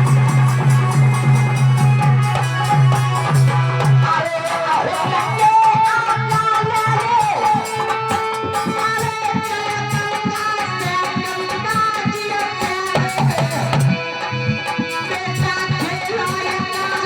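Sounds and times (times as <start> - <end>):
sliding melodic lead line: 0.0 - 17.0
steady drum beat: 0.0 - 17.0.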